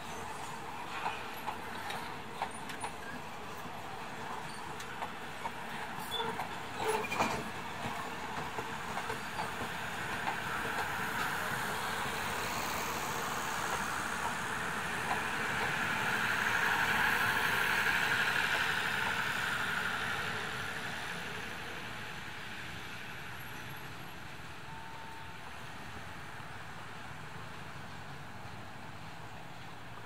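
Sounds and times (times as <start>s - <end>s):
train wheels rolling on rails: 0.0s - 30.0s.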